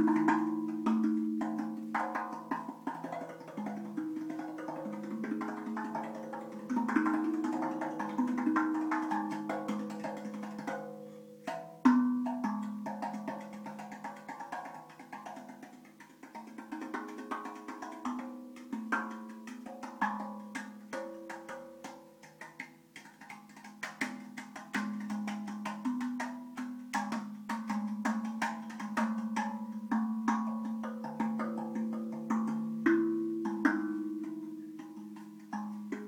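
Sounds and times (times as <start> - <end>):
steel tongue drum played by hand: 0.0 - 36.0.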